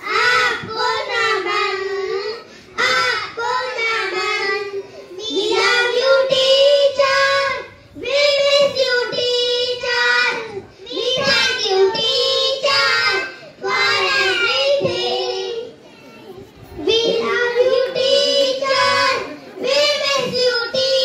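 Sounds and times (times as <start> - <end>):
children singing in unison: 0.0 - 15.8, 16.8 - 21.0.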